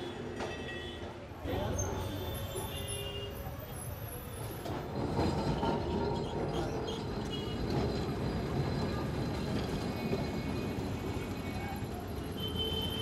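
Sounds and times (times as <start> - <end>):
tram rumbling along rails: 0.0 - 13.0.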